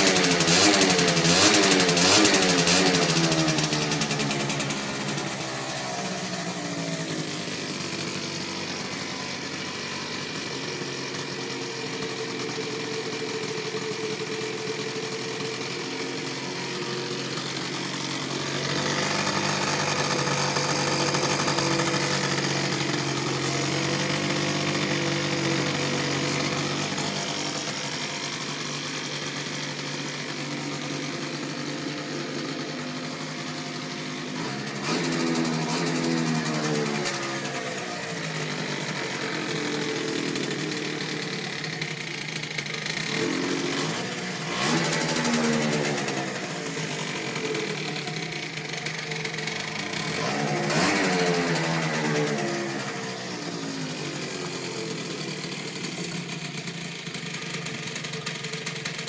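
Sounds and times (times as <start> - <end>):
scooter engine idling: 0.0 - 59.0.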